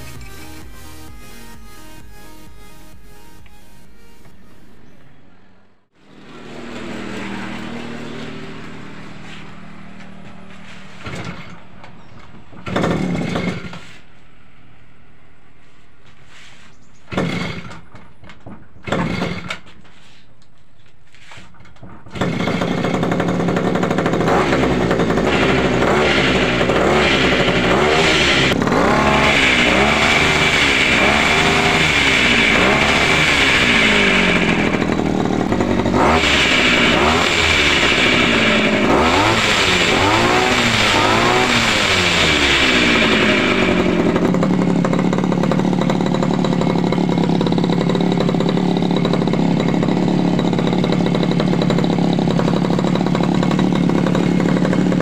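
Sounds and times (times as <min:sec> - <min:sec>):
two-stroke engine revving: 0:00.0 - 0:15.4, 0:16.3 - 0:20.2, 0:21.2 - 0:55.0
recoil starter pulls: 0:06.1 - 0:14.2, 0:16.9 - 0:55.0.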